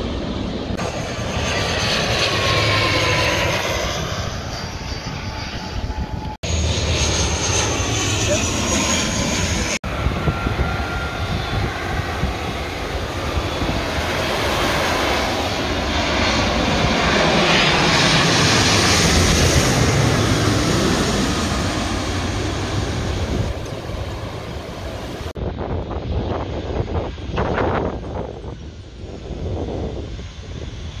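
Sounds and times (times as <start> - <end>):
jet airliner engine roar: 0.0 - 31.0.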